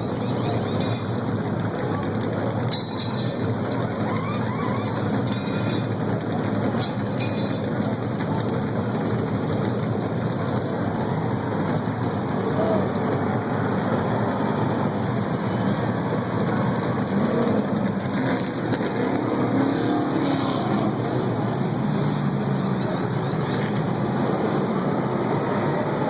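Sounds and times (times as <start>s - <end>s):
many car engines running: 0.0s - 26.0s.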